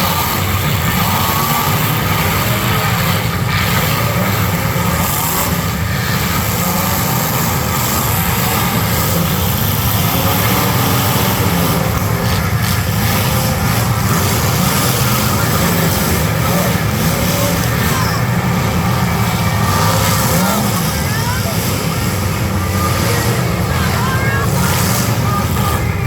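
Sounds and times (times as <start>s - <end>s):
car engines running loud: 0.0s - 26.0s.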